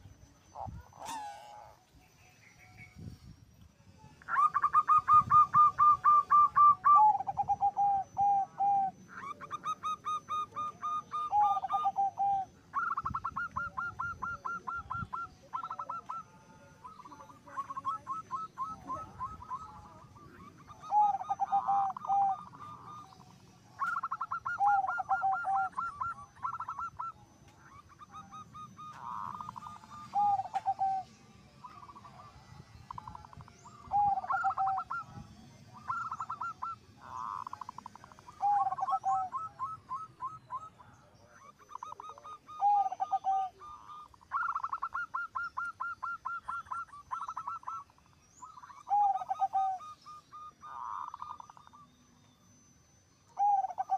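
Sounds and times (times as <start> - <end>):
doves cooing: 0.0 - 2.8, 4.1 - 52.0, 53.2 - 53.9.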